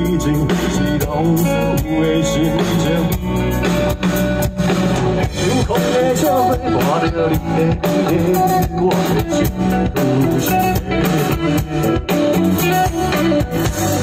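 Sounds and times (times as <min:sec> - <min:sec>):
bass guitar: 0:00.0 - 0:14.0
drum kit beat: 0:00.0 - 0:14.0
electric guitar: 0:00.0 - 0:14.0.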